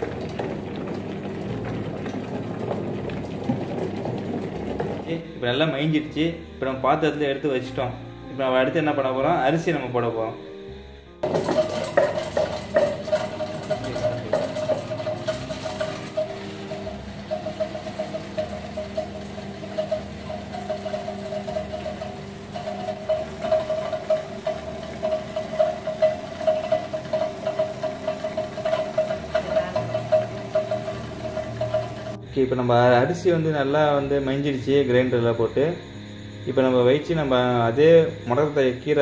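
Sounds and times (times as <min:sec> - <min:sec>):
electric stone wet grinder humming: 0:00.0 - 0:36.1.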